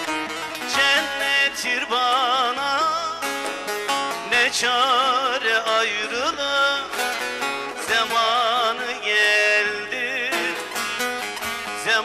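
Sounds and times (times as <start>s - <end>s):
man singing into a microphone: 0.0s - 12.0s
plucked lute accompaniment: 0.0s - 12.0s.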